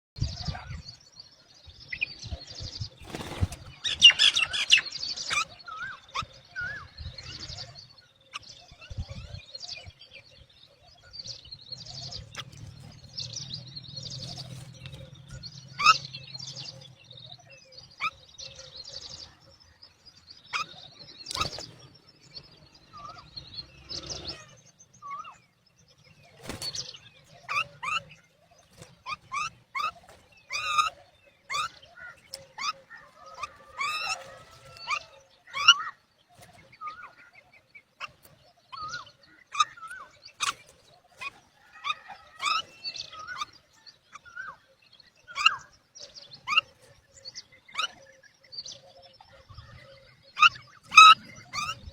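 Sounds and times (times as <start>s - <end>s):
mynas chirping and calling: 0.2s - 51.9s.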